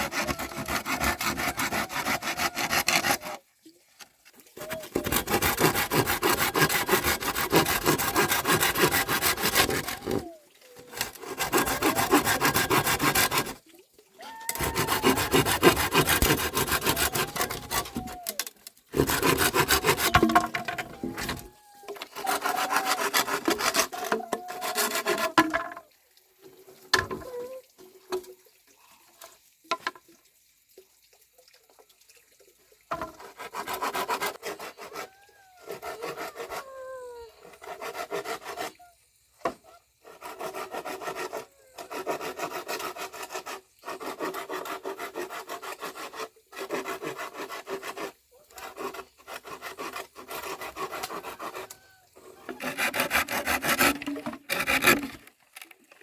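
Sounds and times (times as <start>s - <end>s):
hand saw cutting wood: 0.0s - 3.4s, 4.6s - 13.6s, 14.5s - 25.8s, 32.9s - 36.8s, 37.4s - 38.8s, 39.4s - 55.8s.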